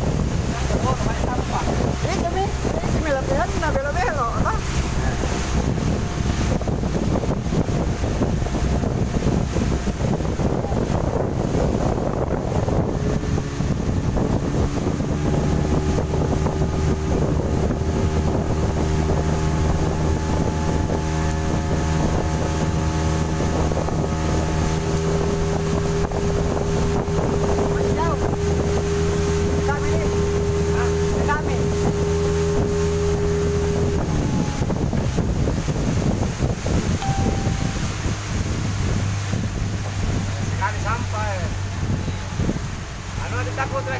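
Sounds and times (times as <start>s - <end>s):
outboard motor running: 0.0s - 43.9s
water rushing past hull: 0.0s - 43.9s
wind on microphone: 0.0s - 43.9s.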